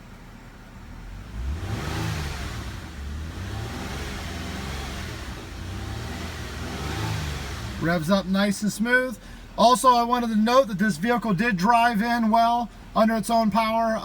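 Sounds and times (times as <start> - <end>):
car engine idling and revving: 0.0 - 11.6.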